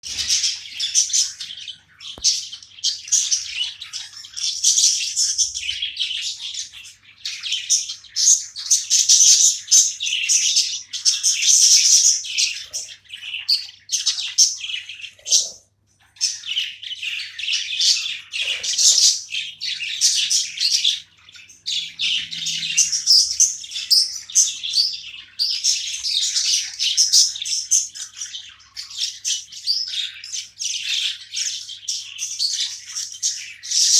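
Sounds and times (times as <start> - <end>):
budgerigars chattering and warbling: 0.0 - 33.9.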